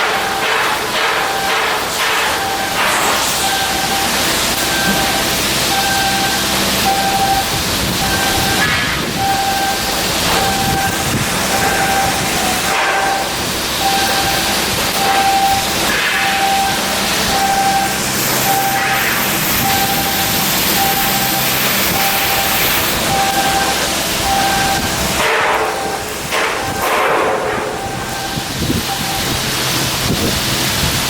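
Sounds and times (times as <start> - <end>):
electronic warning beep: 0.0 - 30.4
loud steady hiss: 0.0 - 31.0.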